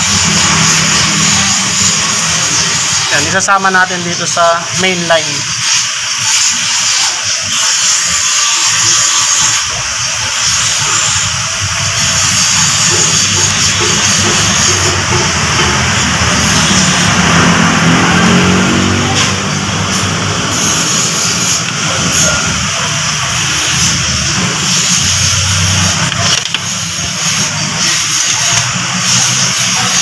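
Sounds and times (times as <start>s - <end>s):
loud rushing noise: 0.0s - 30.0s.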